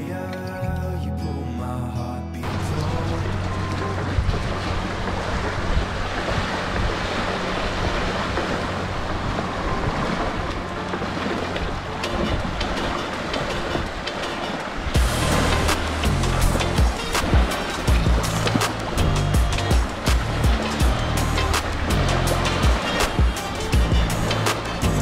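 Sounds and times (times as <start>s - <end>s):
small waves washing onto pebbles: 2.4s - 25.0s
wind on microphone: 2.5s - 25.0s.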